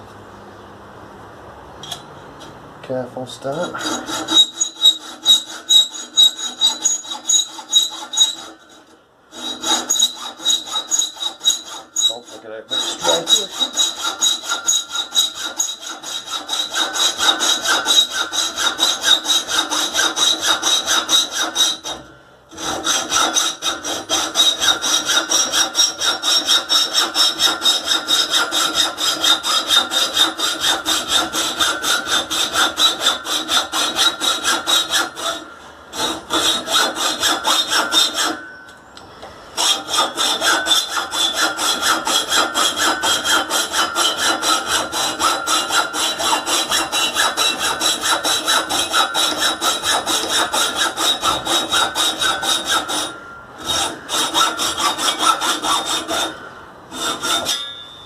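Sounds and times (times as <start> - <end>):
hacksaw cutting metal pipe: 3.4 - 38.7, 39.6 - 57.9.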